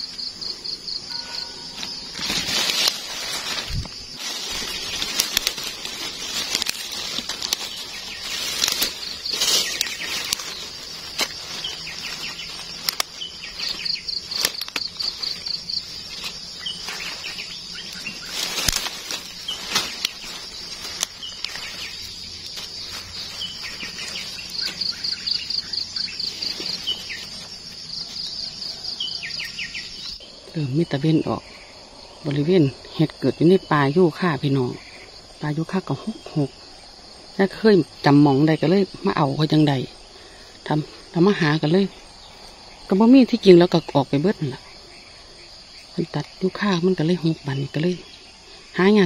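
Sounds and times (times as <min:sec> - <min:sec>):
dry leaves and twigs rustling: 0:00.0 - 0:49.0
insects shrilling: 0:00.0 - 0:49.0.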